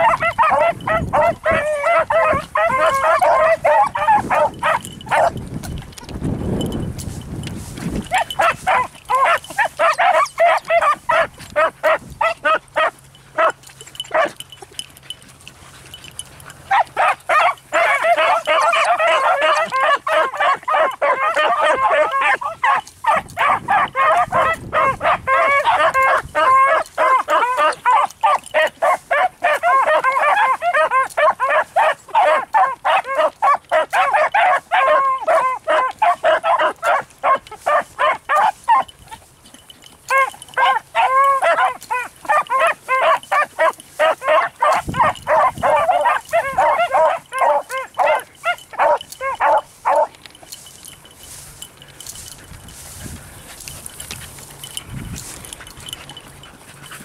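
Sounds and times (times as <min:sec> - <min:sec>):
dogs baying: 0:00.0 - 0:57.0.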